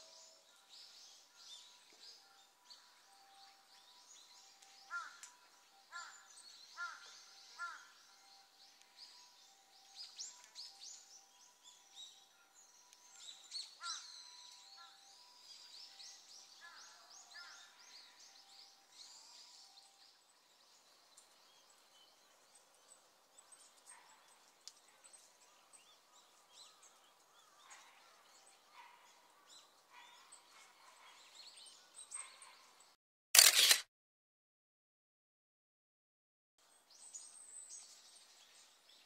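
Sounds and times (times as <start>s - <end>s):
small birds chirping: 0.0s - 33.8s.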